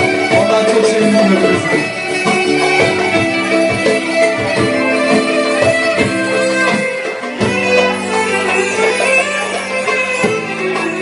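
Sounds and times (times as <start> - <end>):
instrumental song with struck notes: 0.0 - 11.0.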